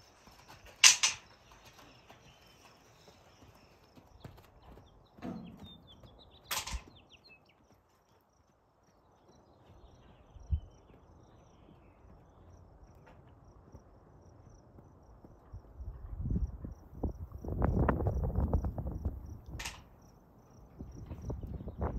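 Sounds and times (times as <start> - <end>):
insects chirping: 0.0 - 21.9.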